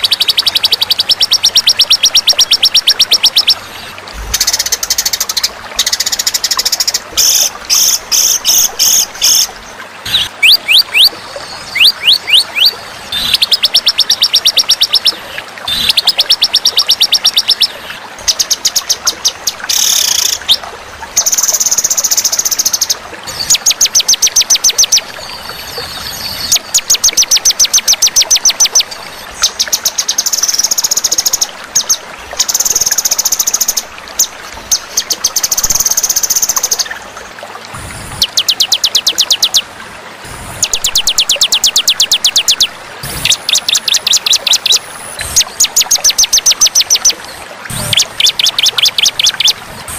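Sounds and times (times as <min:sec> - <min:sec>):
songbird chirps and trills: 0:00.0 - 0:37.5, 0:38.1 - 0:39.8, 0:40.6 - 0:49.6.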